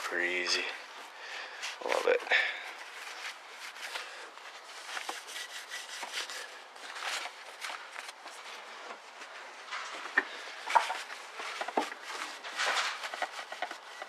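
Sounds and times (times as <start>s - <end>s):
cloth wiping engine parts: 0.1s - 14.0s.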